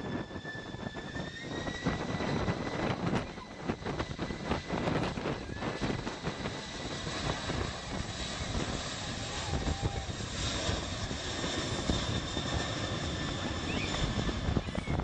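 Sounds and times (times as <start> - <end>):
airliner engines rushing: 0.0 - 15.0
high engine whine: 0.0 - 15.0.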